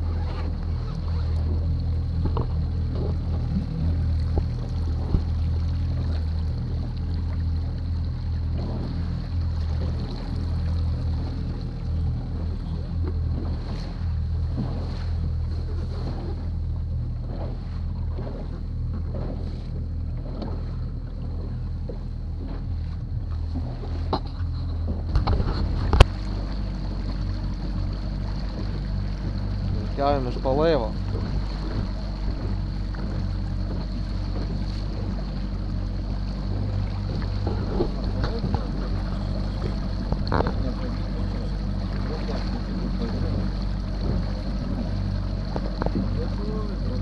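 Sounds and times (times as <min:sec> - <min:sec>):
outboard motor running: 0:00.0 - 0:47.0
water slapping against hull: 0:00.0 - 0:47.0.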